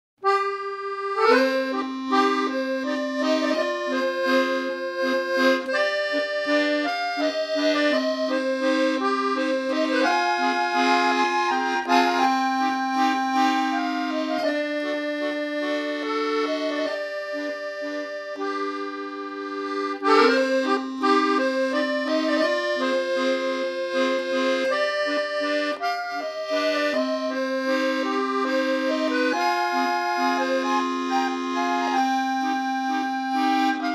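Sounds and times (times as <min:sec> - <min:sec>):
accordion playing a lilting melody: 0:00.2 - 0:33.9.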